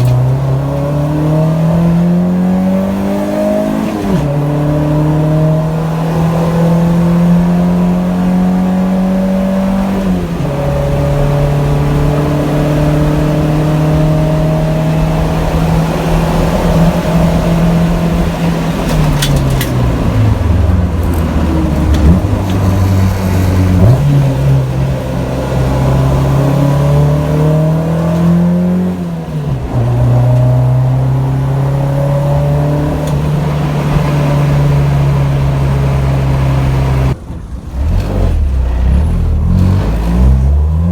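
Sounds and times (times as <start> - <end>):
car engine revving while driving: 0.0 - 40.9.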